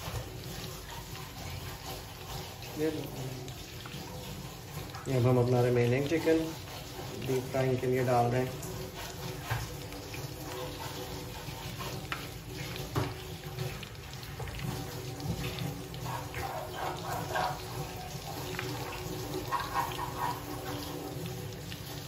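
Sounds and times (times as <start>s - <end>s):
food deep frying in oil: 0.0s - 22.0s
oil crackling: 0.0s - 22.0s.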